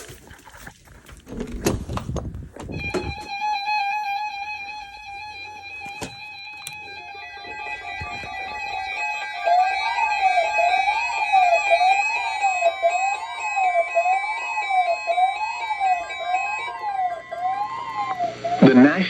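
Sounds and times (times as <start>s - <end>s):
background music with keyboard tones: 2.7s - 19.0s
electronic siren rising and falling: 2.7s - 19.0s.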